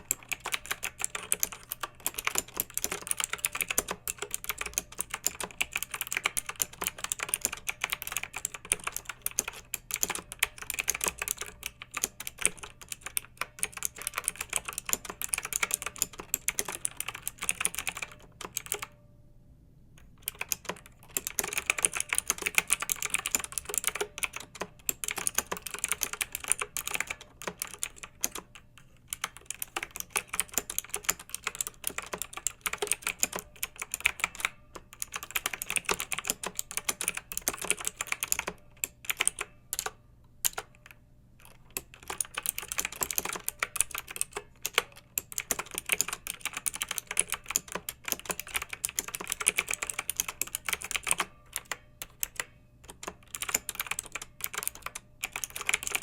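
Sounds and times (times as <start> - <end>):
mechanical keyboard typing: 0.0 - 19.0, 20.0 - 56.0.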